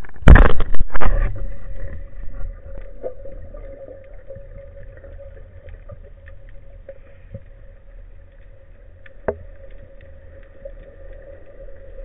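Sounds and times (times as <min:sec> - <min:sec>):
faint crackling clicks: 0:00.0 - 0:12.0
underwater low rumble: 0:00.0 - 0:12.0.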